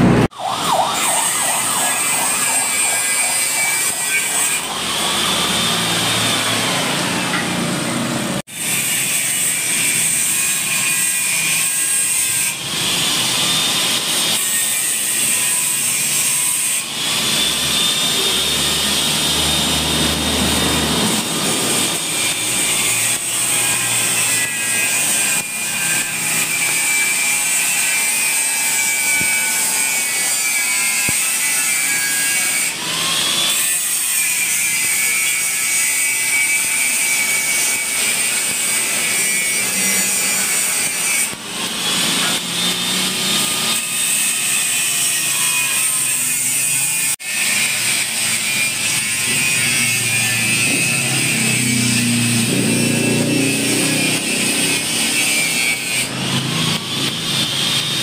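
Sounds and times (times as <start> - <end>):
electric grinder grinding metal: 0.0 - 58.0.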